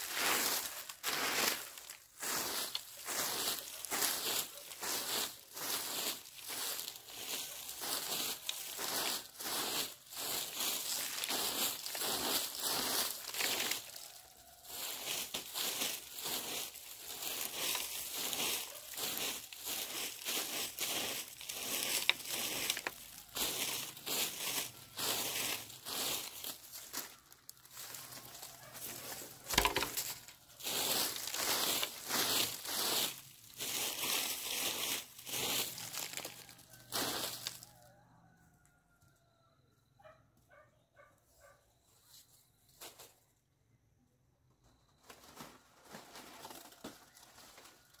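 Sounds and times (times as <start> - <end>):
dry crunching and rustling: 0.0 - 38.0, 45.0 - 48.0.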